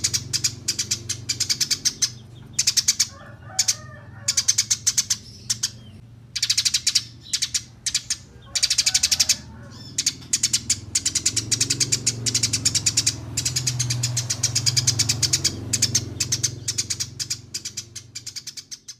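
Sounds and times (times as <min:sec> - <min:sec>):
sparrow chirping: 0:00.0 - 0:18.9.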